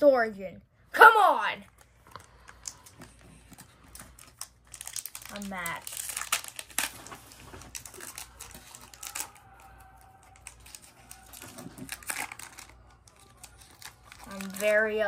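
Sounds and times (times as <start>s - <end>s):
trading cards being handled: 1.6s - 15.0s
foil wrapper crinkling: 1.7s - 15.0s.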